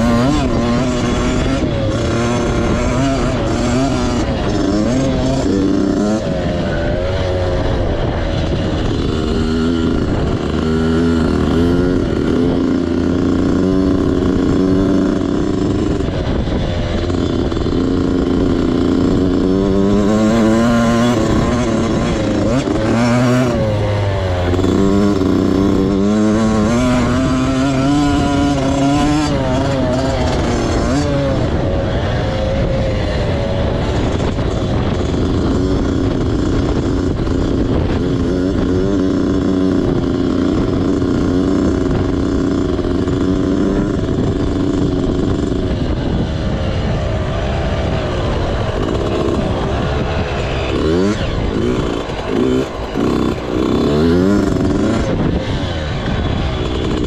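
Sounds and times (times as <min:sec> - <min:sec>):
motocross bike engine: 0:00.0 - 0:57.0
wind noise: 0:00.0 - 0:57.0.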